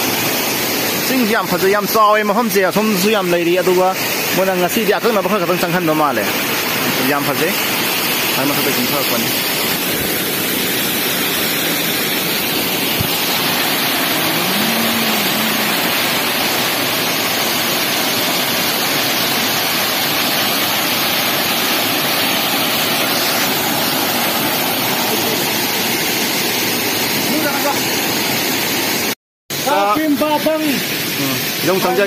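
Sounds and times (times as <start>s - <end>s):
waterfall splashing onto rocks: 0.0s - 32.0s.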